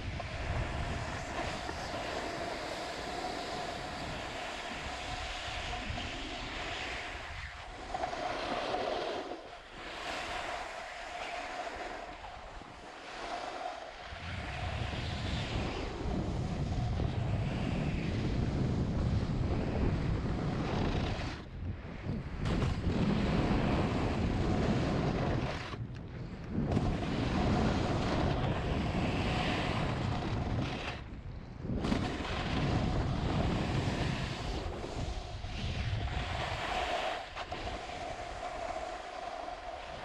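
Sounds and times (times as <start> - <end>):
skis sliding over snow: 0.0 - 40.0
wind buffeting microphone: 0.0 - 40.0.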